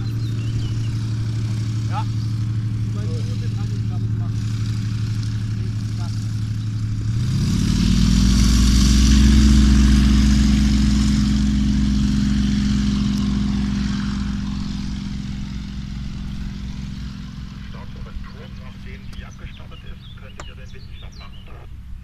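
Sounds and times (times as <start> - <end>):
winch engine at full power: 0.0 - 22.0.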